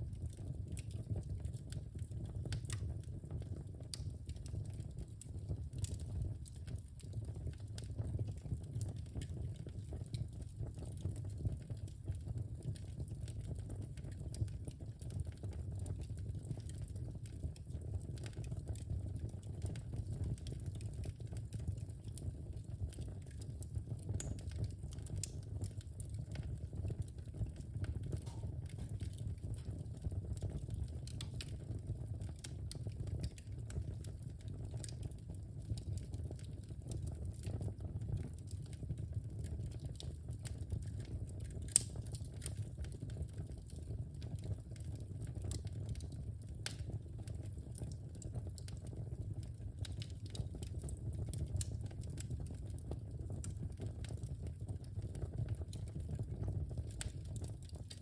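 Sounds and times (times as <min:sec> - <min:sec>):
low rumble of burning: 0:00.0 - 0:58.0
wood fire crackling: 0:00.0 - 0:58.0.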